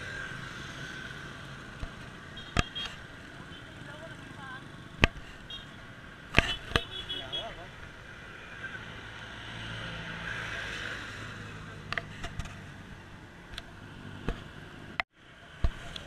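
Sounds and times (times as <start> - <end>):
road and traffic rumble: 0.0 - 16.0.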